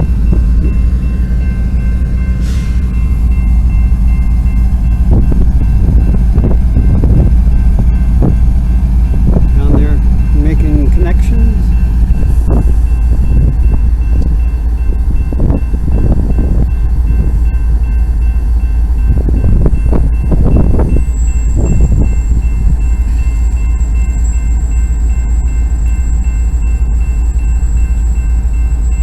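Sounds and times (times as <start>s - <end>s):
diesel locomotives rumbling: 0.0s - 29.0s.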